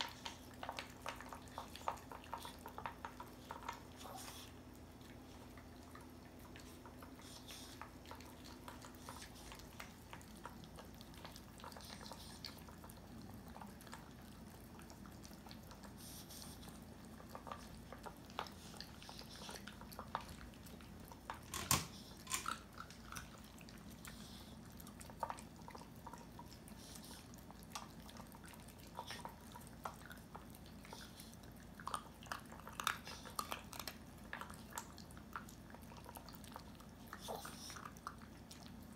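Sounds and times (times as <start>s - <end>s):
dogs chewing kibble: 0.0s - 38.9s.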